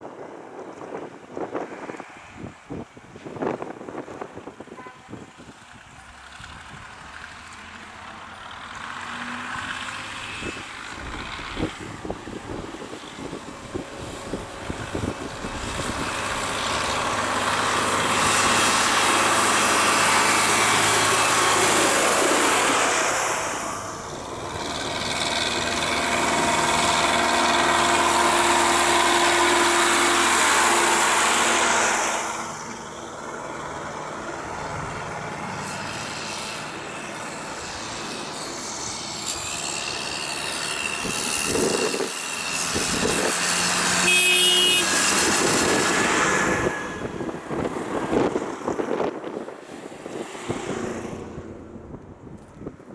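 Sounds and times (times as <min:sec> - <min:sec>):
tractor engines passing: 0:00.0 - 0:52.9.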